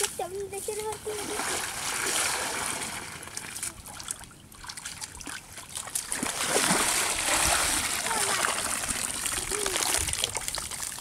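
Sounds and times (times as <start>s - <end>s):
muddy water sloshing and trickling: 0.0s - 11.0s.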